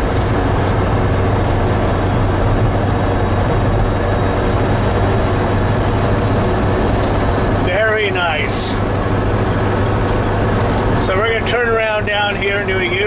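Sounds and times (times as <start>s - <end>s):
van engine and road drone: 0.0s - 13.0s.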